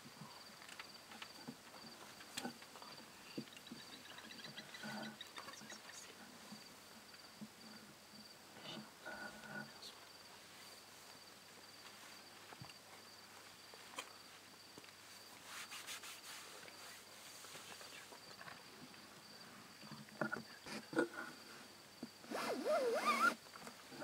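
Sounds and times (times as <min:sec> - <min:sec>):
insects trilling: 0:00.2 - 0:15.3, 0:16.1 - 0:24.0.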